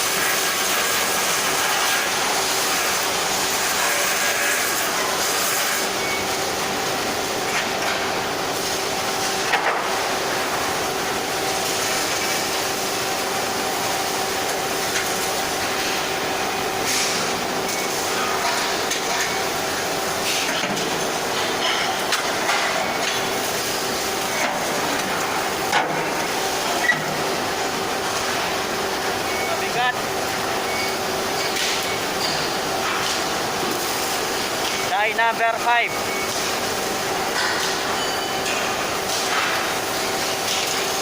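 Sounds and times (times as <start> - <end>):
constant machinery hum: 0.0 - 41.0.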